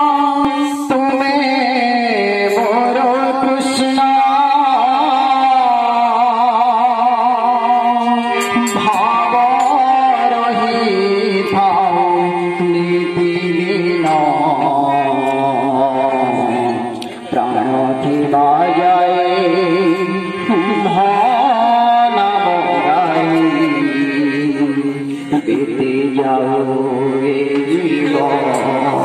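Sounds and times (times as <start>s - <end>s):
harmonium held notes: 0.0s - 29.0s
man singing into a microphone: 0.0s - 29.0s.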